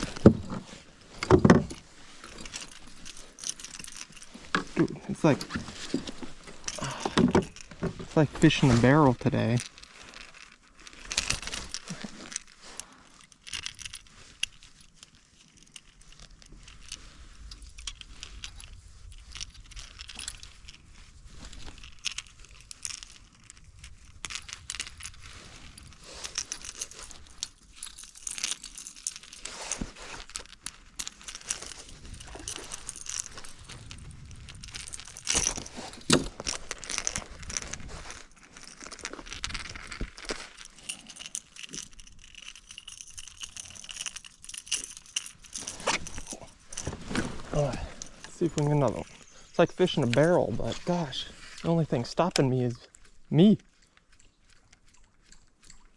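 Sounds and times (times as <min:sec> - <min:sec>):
fishing gear clicking and rattling: 0:00.0 - 0:55.9.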